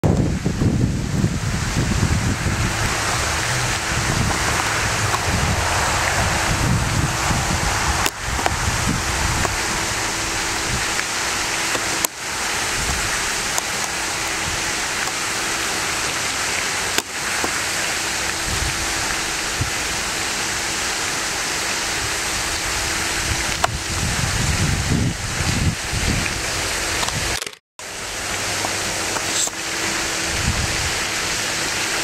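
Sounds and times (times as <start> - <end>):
loud rushing noise: 0.0 - 27.0
low buffeting: 0.0 - 31.9.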